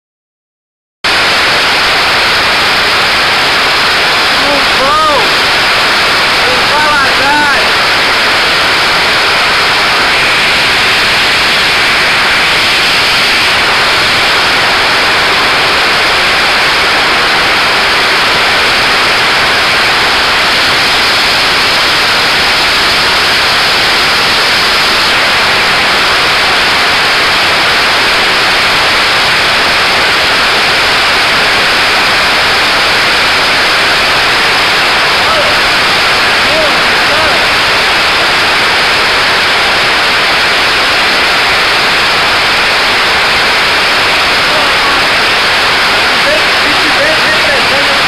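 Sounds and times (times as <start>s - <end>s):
heavy rain hissing: 1.1s - 48.0s.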